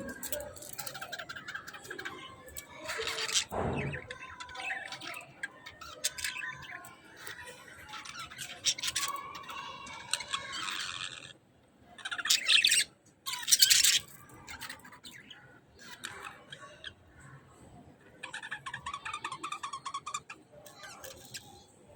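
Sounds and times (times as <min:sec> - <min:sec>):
budgerigars chirping and chattering: 0:00.0 - 0:11.4, 0:12.0 - 0:17.1, 0:18.0 - 0:21.7.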